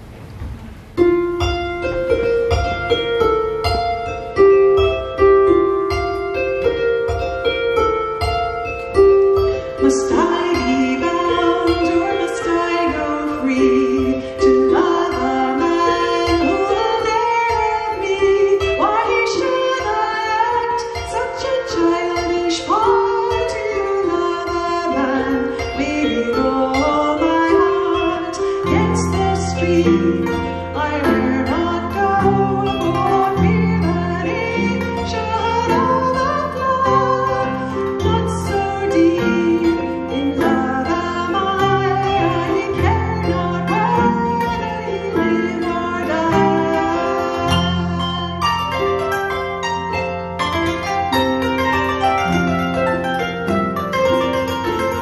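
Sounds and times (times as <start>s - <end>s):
harp plucked notes: 0.0s - 55.0s
kora plucked notes: 0.0s - 55.0s.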